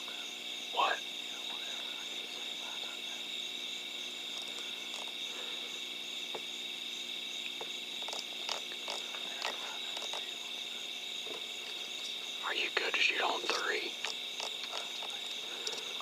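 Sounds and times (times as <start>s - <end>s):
frogs calling: 0.0s - 16.0s
insects chirping: 0.0s - 16.0s.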